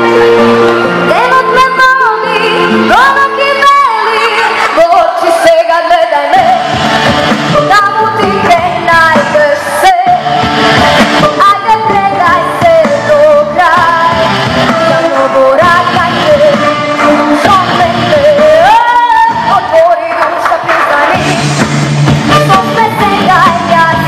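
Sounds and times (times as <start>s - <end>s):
amplified backing music: 0.0s - 24.0s
girl singing into a microphone: 1.1s - 6.6s, 7.6s - 10.5s, 11.2s - 14.3s, 15.0s - 21.3s, 22.3s - 24.0s.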